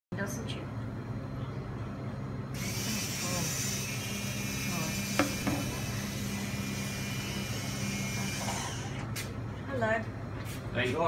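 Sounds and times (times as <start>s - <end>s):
low motor hum: 0.2s - 10.5s.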